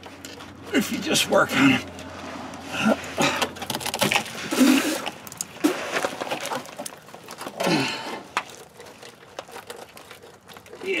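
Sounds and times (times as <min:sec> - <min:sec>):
rubber scraping and creaking: 0:00.0 - 0:11.0.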